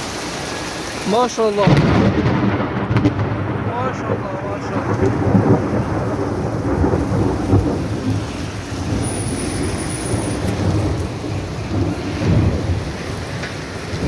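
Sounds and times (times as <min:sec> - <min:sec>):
heavy rain hiss: 0:00.0 - 0:14.0
wind buffeting microphone: 0:01.7 - 0:14.0.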